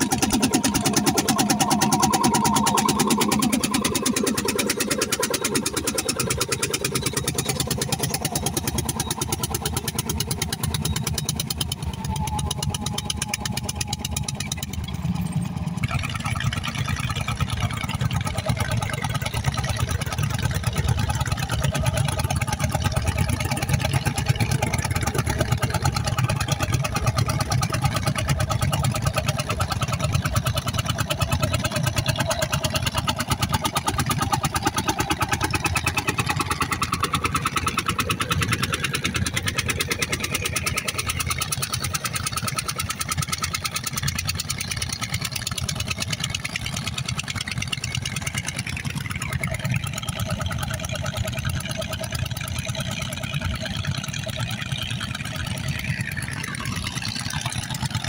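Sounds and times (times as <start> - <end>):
tractor engines chugging: 0.0 - 58.0.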